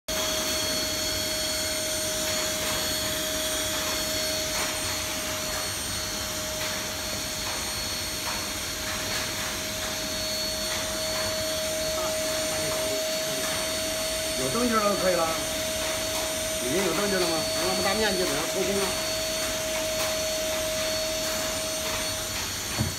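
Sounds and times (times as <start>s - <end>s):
vacuum cleaner whining: 0.1s - 22.9s.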